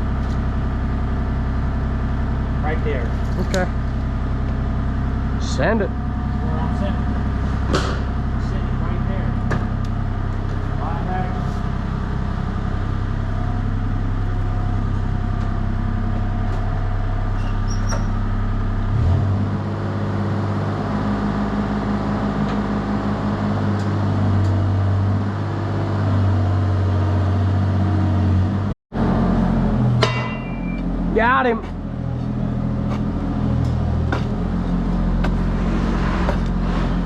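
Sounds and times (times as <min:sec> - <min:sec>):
engine humming: 0:00.0 - 0:37.0.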